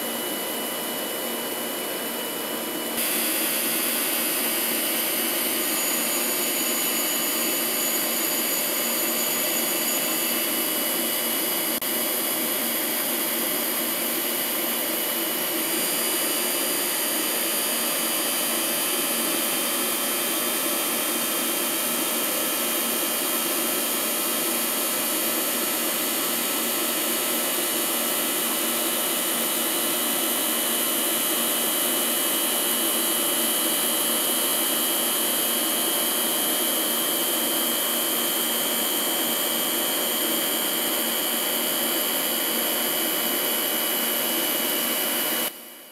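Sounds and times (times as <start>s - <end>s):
grinder whining and hissing: 0.0s - 45.5s.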